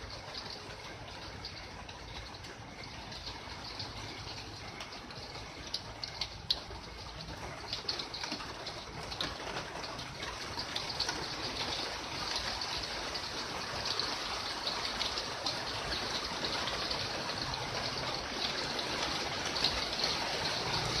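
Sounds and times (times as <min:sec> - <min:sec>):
rain falling: 0:00.0 - 0:21.0
sharp drips and splashes: 0:00.0 - 0:21.0.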